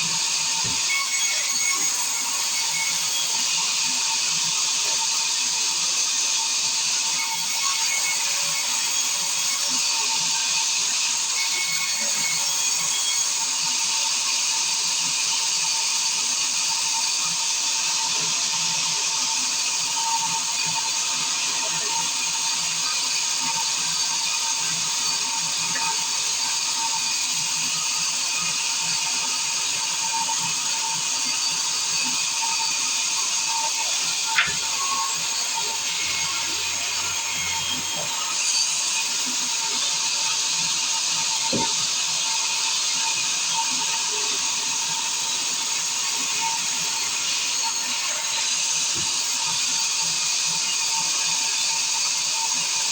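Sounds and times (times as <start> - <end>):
circular saw whining: 0.0 - 52.9
sawmill machinery running: 0.0 - 52.9.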